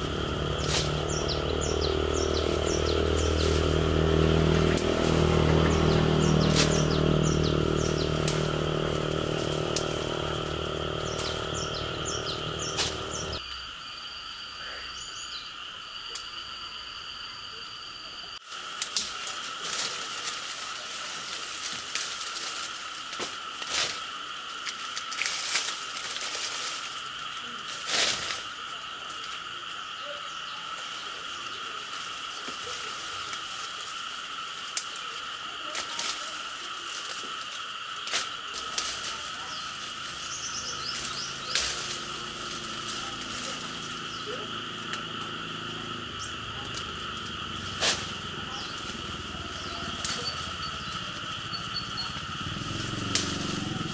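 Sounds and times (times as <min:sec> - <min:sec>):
insect chorus: 0:00.0 - 0:53.9.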